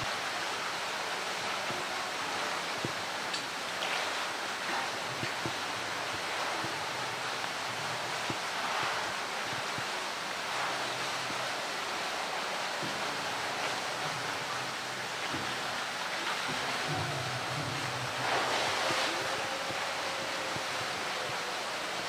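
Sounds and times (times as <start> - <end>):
water rushing and splashing: 0.0 - 22.0.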